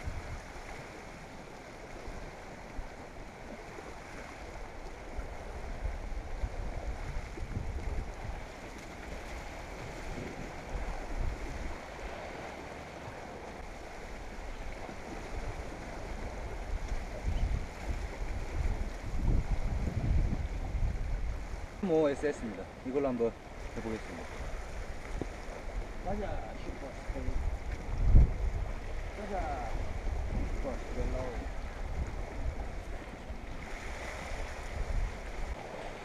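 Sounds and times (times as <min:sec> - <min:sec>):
sea waves washing against rocks: 0:00.0 - 0:36.0
wind buffeting microphone: 0:00.0 - 0:36.0.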